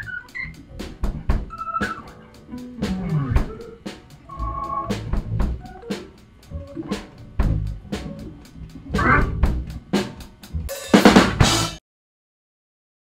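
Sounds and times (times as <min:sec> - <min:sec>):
irregular drum hits: 0:00.0 - 0:11.8
low bass notes: 0:00.0 - 0:11.8.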